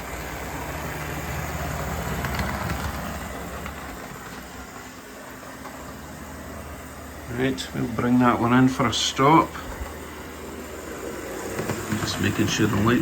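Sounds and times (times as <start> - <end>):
model train motor whirring: 0.0 - 13.0
wheels rolling on rails: 0.0 - 13.0.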